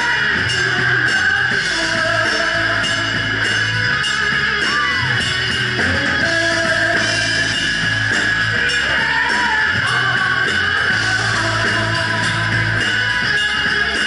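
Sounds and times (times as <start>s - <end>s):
bass guitar: 0.0s - 14.0s
drum kit steady beat: 0.0s - 14.0s
electric guitar: 0.0s - 14.0s.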